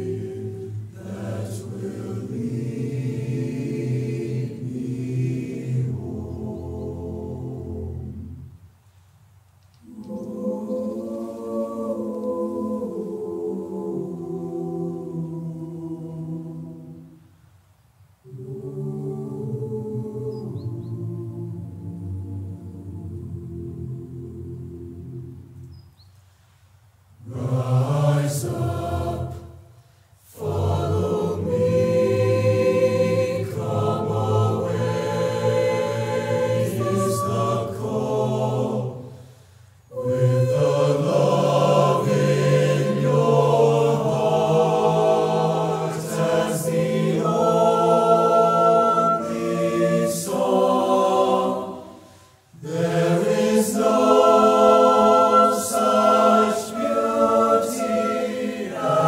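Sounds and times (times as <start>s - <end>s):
choir singing a cappella: 0.0s - 8.6s, 9.8s - 17.3s, 18.2s - 25.8s, 27.2s - 59.0s.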